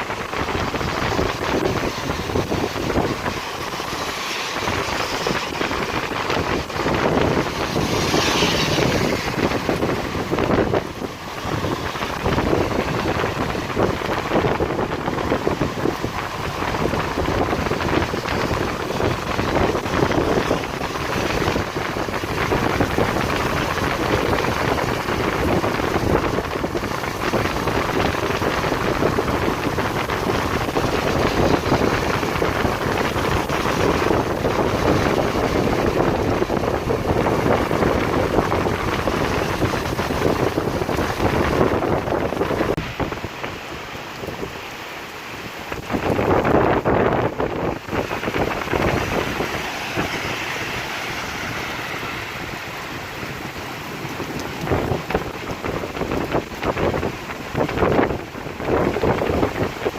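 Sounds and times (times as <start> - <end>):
heavy rain falling: 0.0 - 59.9
wind on microphone: 0.0 - 59.9.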